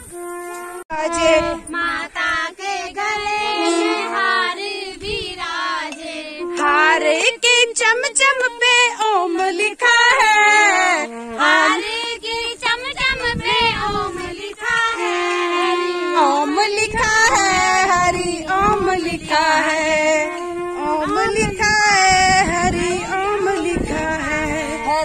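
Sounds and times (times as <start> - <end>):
women and children singing: 1.0 - 25.0.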